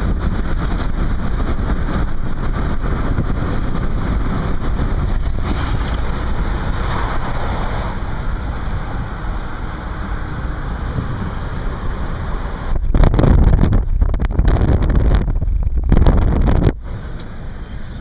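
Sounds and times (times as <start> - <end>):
tyres and engine rumble: 0.0 - 18.0.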